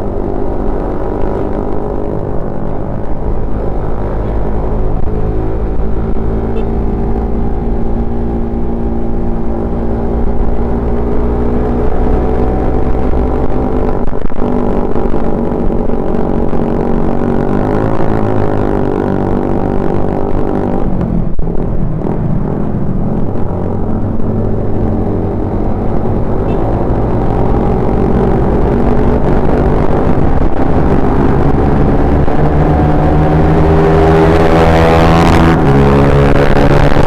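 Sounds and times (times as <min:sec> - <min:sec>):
motorcycle engine and exhaust: 0:00.0 - 0:37.0.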